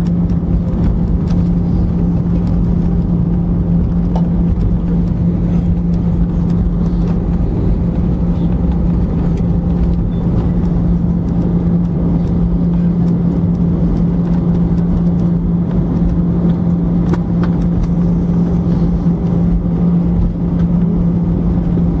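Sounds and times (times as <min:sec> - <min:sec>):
airliner engine and airflow noise: 0:00.0 - 0:22.0.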